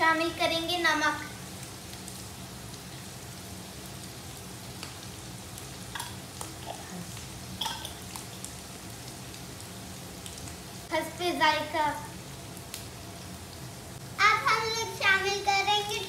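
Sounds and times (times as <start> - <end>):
food sizzling in oil: 0.0 - 16.0
oil crackling: 0.0 - 16.0.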